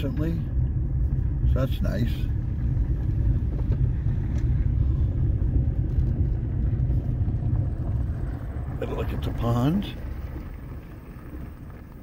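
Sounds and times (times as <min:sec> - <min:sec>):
car cabin low rumble: 0:00.0 - 0:12.0
car engine: 0:00.0 - 0:12.0.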